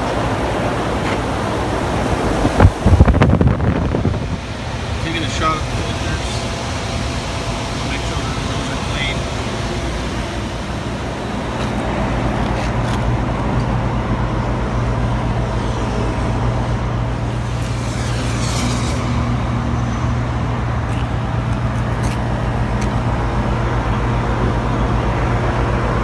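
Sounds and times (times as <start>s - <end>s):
heat pump humming: 0.0s - 26.0s.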